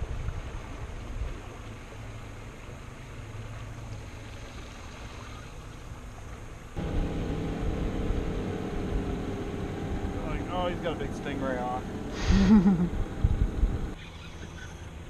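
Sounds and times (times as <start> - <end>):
boat motor hum: 0.0 - 15.0
low rumble of wind and water: 0.0 - 15.0.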